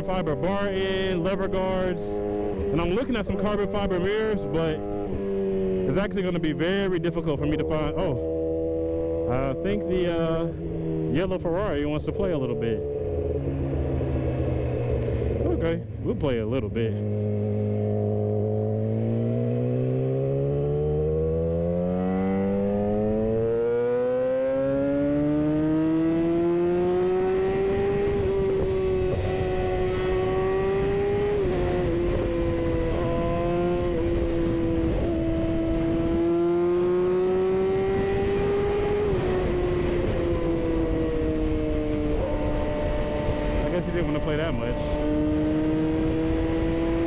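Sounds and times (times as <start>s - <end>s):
motorcycle engine accelerating hard: 0.0s - 47.0s.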